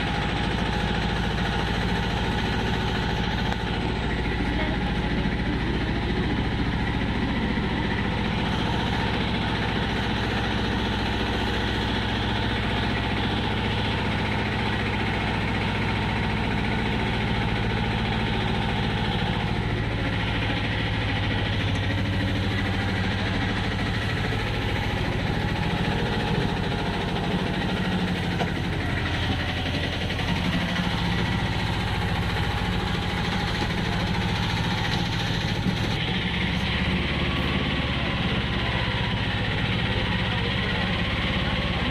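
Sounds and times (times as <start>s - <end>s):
passenger train rumbling: 0.0s - 41.9s.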